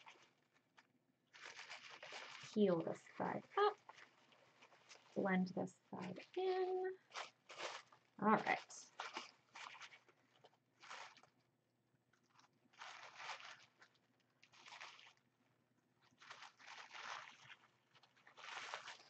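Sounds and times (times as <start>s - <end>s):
tissue paper crinkling: 0.0s - 11.4s, 12.1s - 15.3s, 16.0s - 19.0s.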